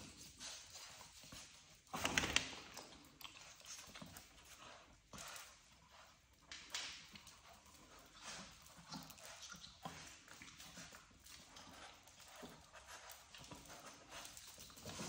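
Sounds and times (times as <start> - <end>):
paws clicking on hard floor: 0.0 - 15.0.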